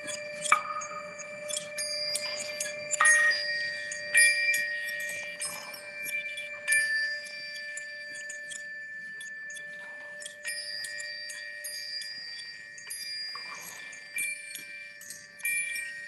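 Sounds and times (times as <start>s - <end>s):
bell-like chime tones: 0.0s - 16.0s
small metallic clicks: 0.0s - 16.0s.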